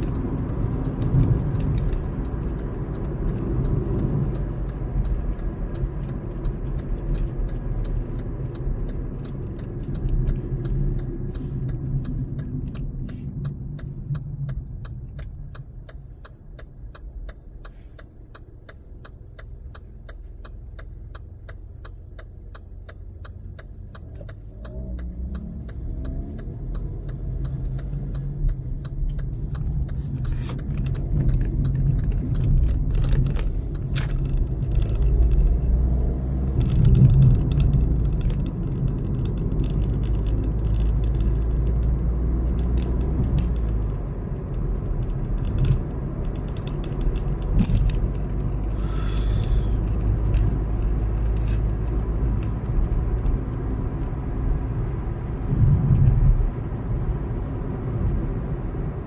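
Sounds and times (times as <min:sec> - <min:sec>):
car engine and road rumble: 0:00.0 - 0:59.0
turn signal ticking: 0:00.0 - 0:59.0.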